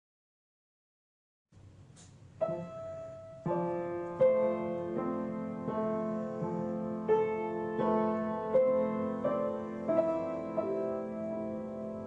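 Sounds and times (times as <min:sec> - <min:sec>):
solo piano: 0:02.2 - 0:12.0.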